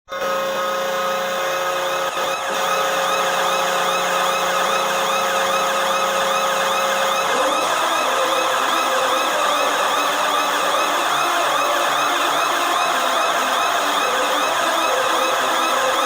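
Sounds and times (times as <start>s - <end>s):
siren wailing: 0.5s - 16.0s.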